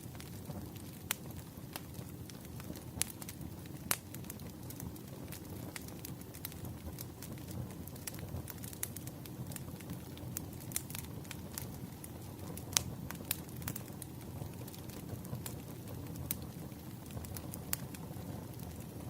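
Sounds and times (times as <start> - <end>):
firewood crackling and popping: 0.0 - 19.0
low rumble of flames: 0.0 - 19.0.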